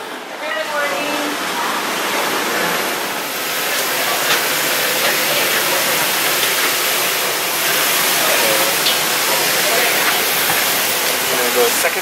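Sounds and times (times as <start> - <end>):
ventilation air hissing: 0.0 - 12.0.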